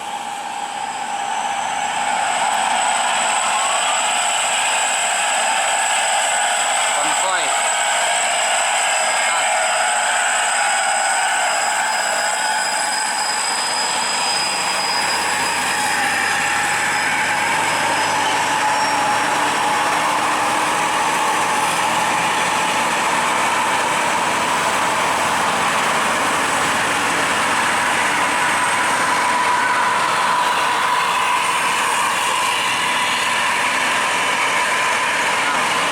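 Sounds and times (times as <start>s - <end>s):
heavy vehicle engine under load: 0.0s - 35.9s
road noise: 0.0s - 35.9s
thin high whine: 0.0s - 35.9s.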